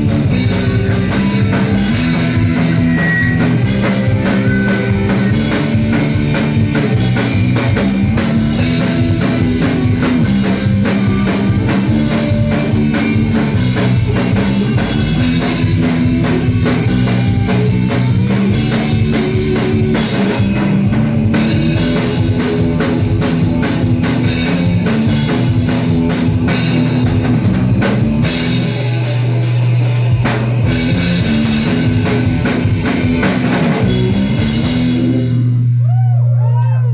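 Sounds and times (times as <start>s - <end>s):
drum kit fast beat: 0.0s - 35.6s
bass line: 0.0s - 36.9s
electric guitar: 0.0s - 36.9s.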